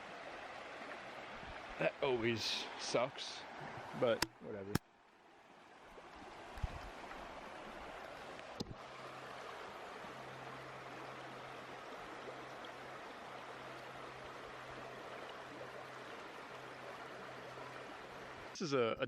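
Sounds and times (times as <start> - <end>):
stream running water: 0.0 - 19.0.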